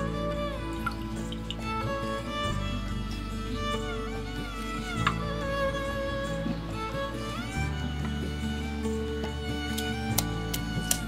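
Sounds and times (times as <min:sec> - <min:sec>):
instrumental music: 0:00.0 - 0:11.0
violin long held notes: 0:00.0 - 0:11.0.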